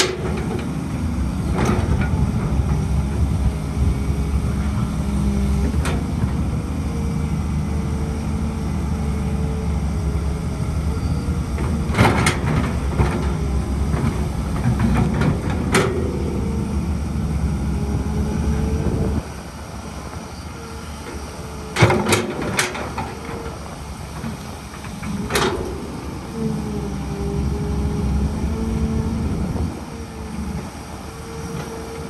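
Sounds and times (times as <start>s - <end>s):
diesel engine drone: 0.0s - 32.0s.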